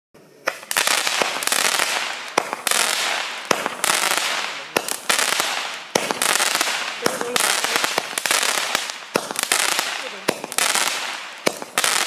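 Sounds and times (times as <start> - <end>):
firework launch reports: 0.2 - 12.0
firework hiss: 0.4 - 12.0.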